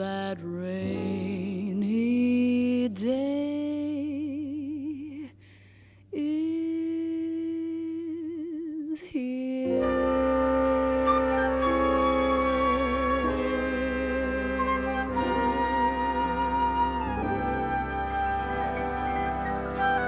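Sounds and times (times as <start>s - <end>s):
slow ballad with held notes: 0.0s - 20.0s.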